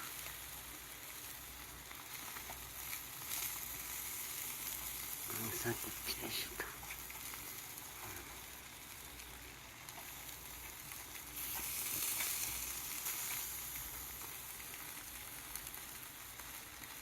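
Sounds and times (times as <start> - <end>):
meat sizzling on a grill: 0.0 - 17.0.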